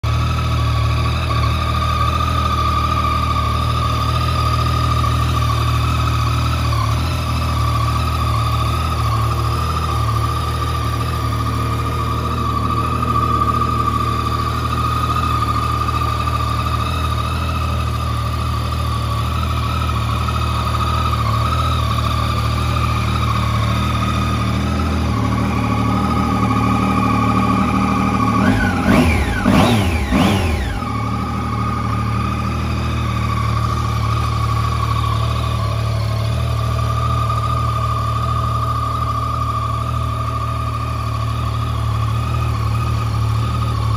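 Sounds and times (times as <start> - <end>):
engine throttle blips: 0.0 - 43.9
motorcycle engine idling: 0.0 - 43.9.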